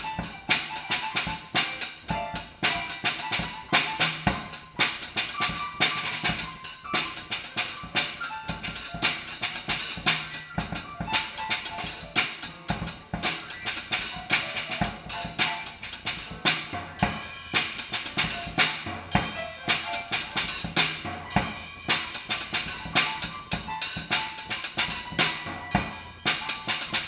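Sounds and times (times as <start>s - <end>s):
drum kit playing: 0.0s - 27.0s
held pitched notes: 0.0s - 27.0s.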